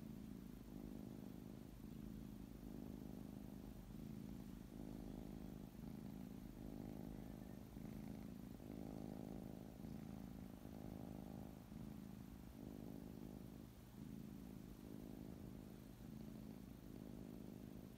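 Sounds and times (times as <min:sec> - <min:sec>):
cat purring: 0:00.0 - 0:17.9.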